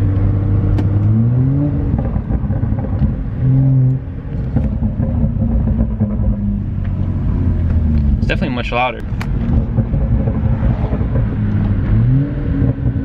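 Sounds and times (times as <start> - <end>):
car engine pulling under throttle: 0.0 - 13.0.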